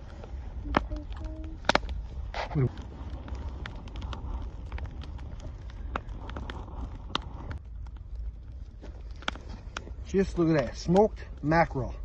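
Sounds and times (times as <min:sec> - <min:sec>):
low rumble: 0:00.0 - 0:12.0
wood fire crackling: 0:00.0 - 0:12.0.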